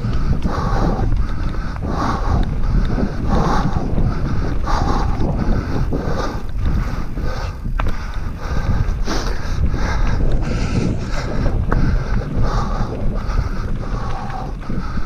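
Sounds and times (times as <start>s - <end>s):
mountain bike riding on trail: 0.0s - 15.0s
wind buffeting microphone: 0.0s - 15.0s.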